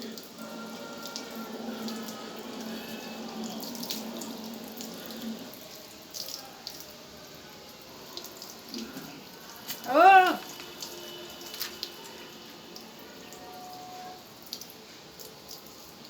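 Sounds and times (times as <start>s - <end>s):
running water splashing: 0.0s - 16.0s
water dripping: 0.0s - 16.0s.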